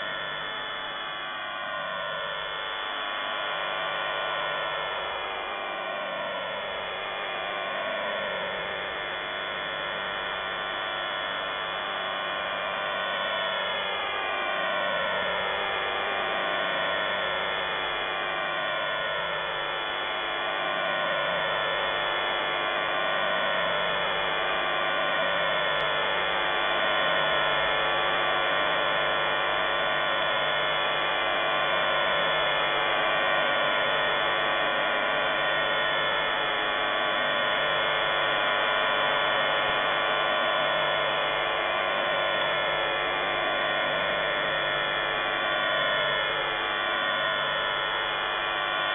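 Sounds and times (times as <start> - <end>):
dense buzz of radio tones: 0.0 - 48.9.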